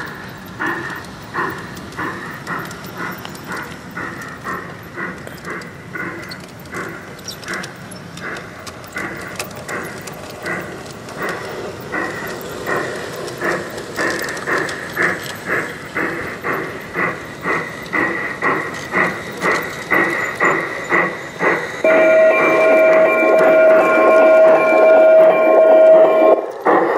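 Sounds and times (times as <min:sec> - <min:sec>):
model steam train chuffing: 0:00.0 - 0:26.9.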